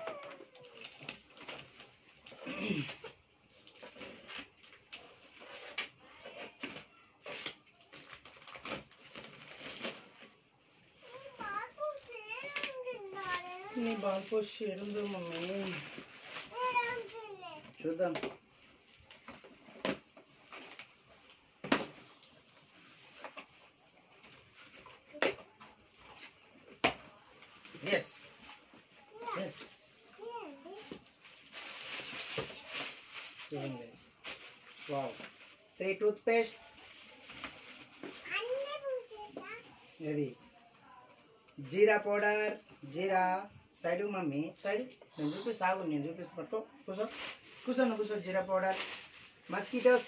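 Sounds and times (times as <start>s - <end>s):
plastic wrap rustling: 0.0s - 40.0s, 46.9s - 50.0s.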